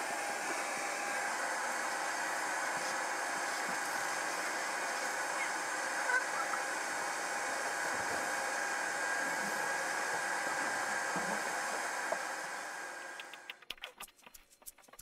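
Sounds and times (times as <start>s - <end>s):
shop vacuum motor whine: 0.0s - 13.5s.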